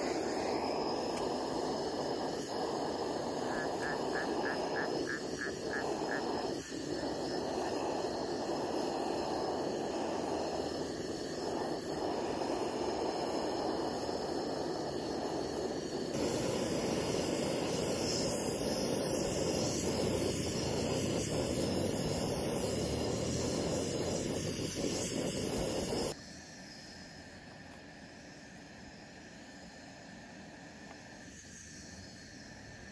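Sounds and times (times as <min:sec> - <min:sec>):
gas stove burner hissing: 0:00.0 - 0:32.9.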